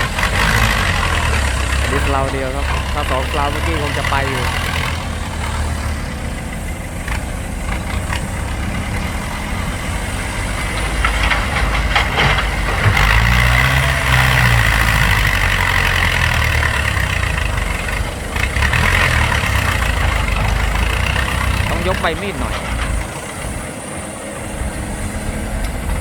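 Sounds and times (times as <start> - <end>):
heavy diesel engine working: 0.0 - 26.0.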